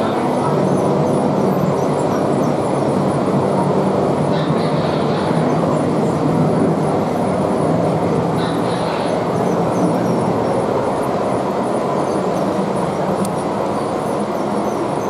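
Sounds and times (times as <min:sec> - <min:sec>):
model train rumbling: 0:00.0 - 0:15.0.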